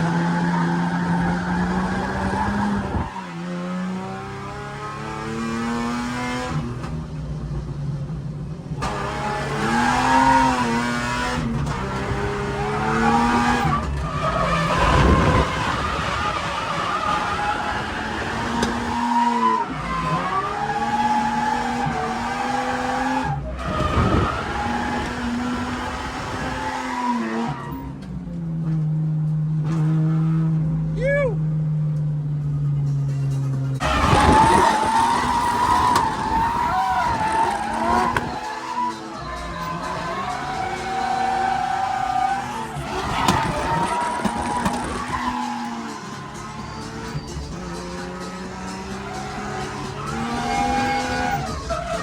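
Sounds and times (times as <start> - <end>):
tyres squealing and skidding: 0.0 - 3.7, 8.8 - 28.1, 33.3 - 52.0
car engine revving: 0.0 - 52.0.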